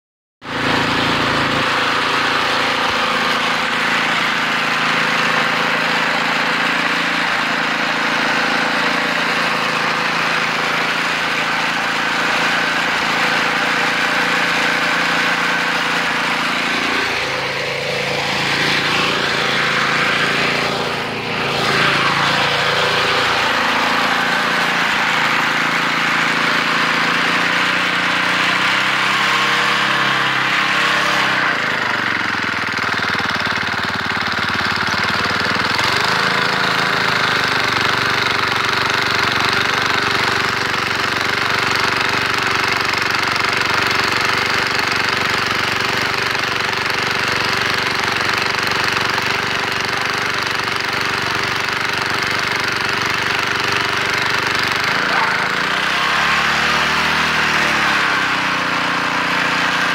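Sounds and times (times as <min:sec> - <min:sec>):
snowblower engine running: 0:00.4 - 0:59.9.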